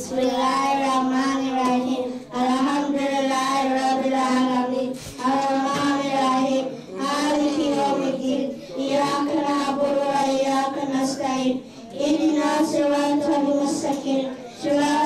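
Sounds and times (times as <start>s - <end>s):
girls singing together: 0.0s - 15.0s.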